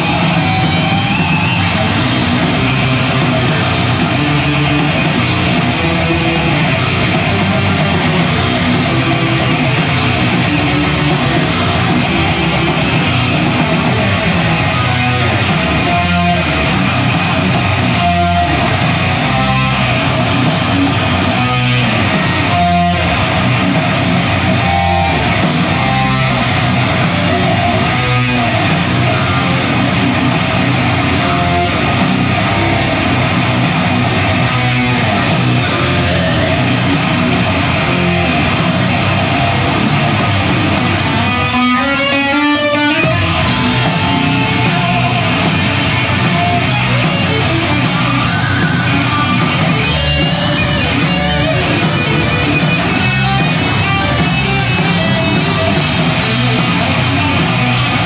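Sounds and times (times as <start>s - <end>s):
heavy metal electric guitar riffing: 0.0s - 58.0s.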